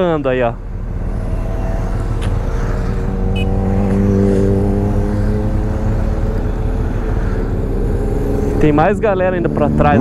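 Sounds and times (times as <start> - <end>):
motorcycles riding past: 0.0 - 10.0.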